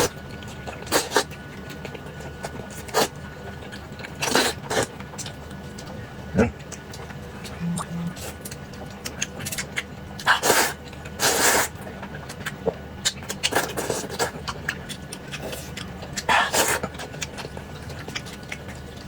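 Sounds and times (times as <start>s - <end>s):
chewing and mouth clicks: 0.1s - 11.2s, 11.9s - 19.0s.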